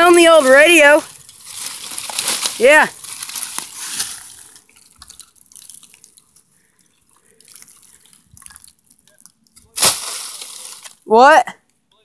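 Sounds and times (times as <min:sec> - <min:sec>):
footsteps on dry leaves and twigs: 0:00.0 - 0:11.0.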